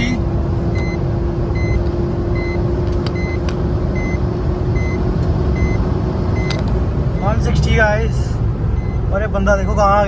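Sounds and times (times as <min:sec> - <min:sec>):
car cabin road and wind noise: 0:00.0 - 0:10.0.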